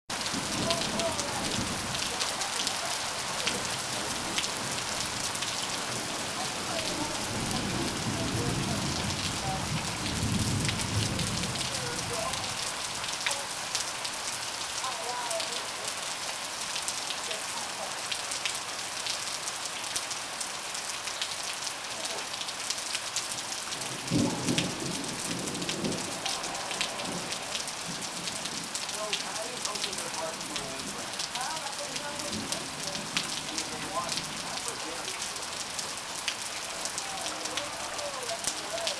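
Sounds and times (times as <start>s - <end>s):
heavy rain: 0.1s - 38.9s.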